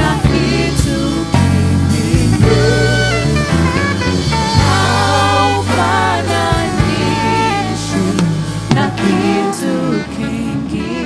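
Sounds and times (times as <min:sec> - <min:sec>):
drum kit: 0:00.0 - 0:11.0
gospel band music: 0:00.0 - 0:11.0
people singing: 0:00.0 - 0:11.0
sustained bass line: 0:00.0 - 0:11.0.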